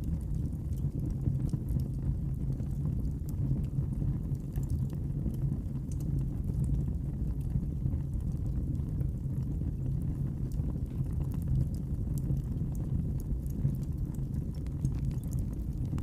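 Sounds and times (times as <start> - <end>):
faint fire crackles: 0.0 - 16.0
low rumble of flames: 0.0 - 16.0.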